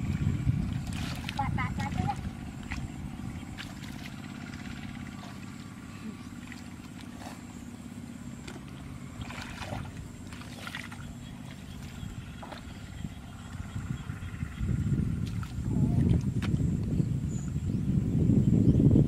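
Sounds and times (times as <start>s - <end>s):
muddy water splashing: 0.0s - 17.0s
small engine humming: 0.0s - 19.0s.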